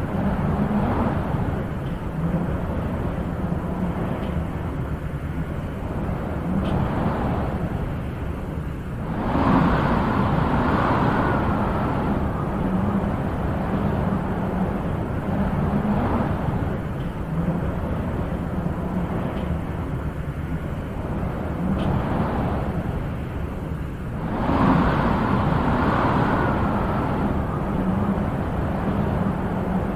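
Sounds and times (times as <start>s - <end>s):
wind blowing in gusts: 0.0s - 29.9s.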